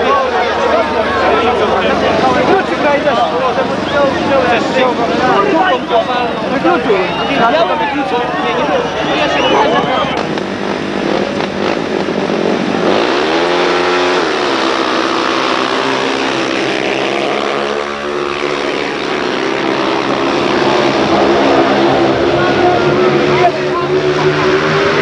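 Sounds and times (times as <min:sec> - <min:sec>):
motorcycles racing: 0:00.0 - 0:25.0.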